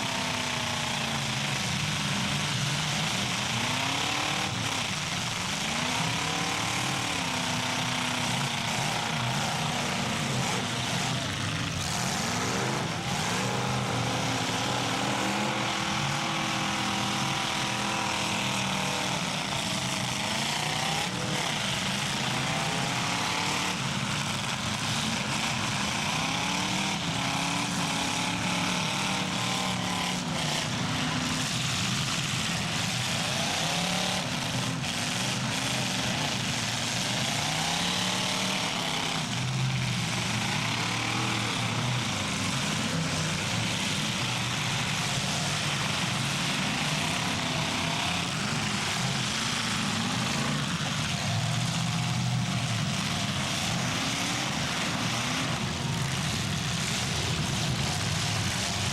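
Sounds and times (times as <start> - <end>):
car engines revving: 0.0 - 58.9.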